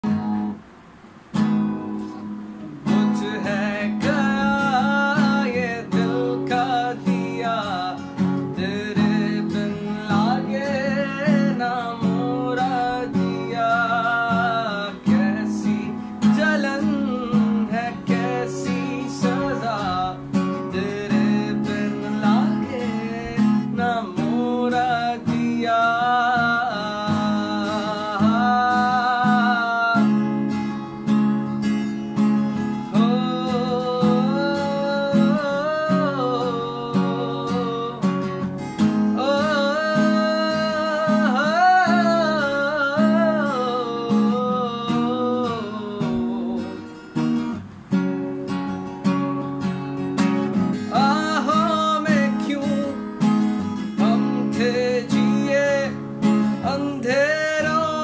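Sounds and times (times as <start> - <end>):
strummed acoustic guitar: 0.0 - 58.0
man singing: 2.7 - 30.7, 32.5 - 47.2, 50.5 - 58.0.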